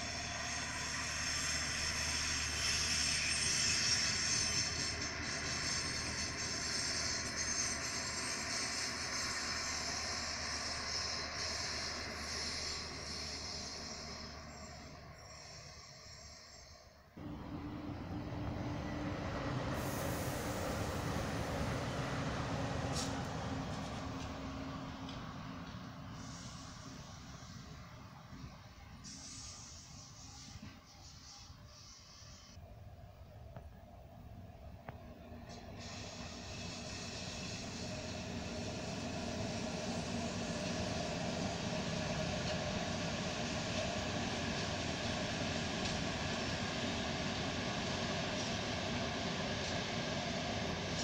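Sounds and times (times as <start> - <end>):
electric train running: 0.0 - 32.6, 35.2 - 51.0.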